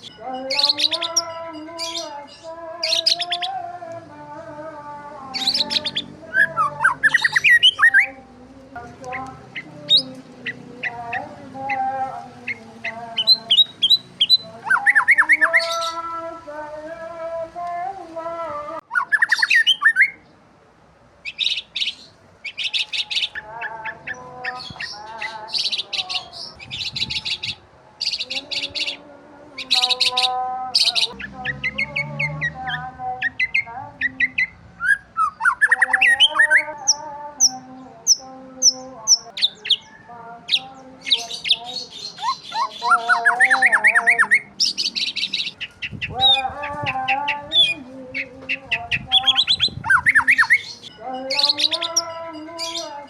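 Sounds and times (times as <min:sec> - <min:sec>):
birds warbling: 0:00.0 - 0:04.2, 0:04.9 - 0:17.1, 0:18.8 - 0:20.4, 0:21.2 - 0:53.0
birds chirping: 0:00.0 - 0:20.5, 0:21.2 - 0:53.0.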